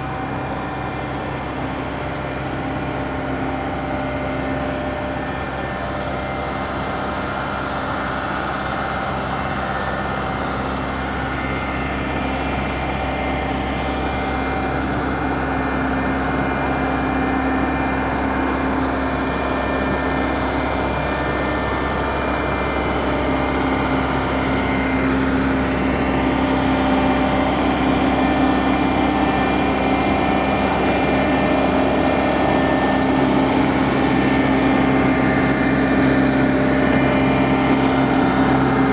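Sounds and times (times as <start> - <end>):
large engine running: 0.0 - 38.9.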